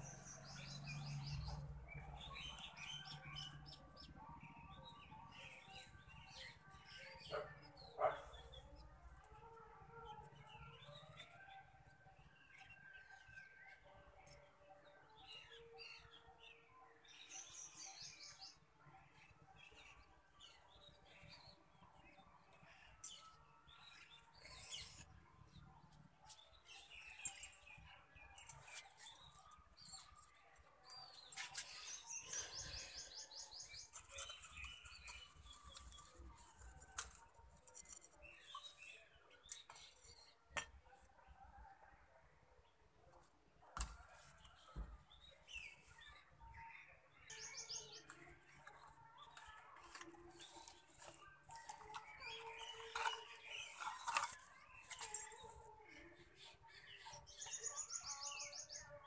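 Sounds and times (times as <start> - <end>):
small birds chirping: 0.0 - 8.9, 10.0 - 41.3, 42.6 - 59.0.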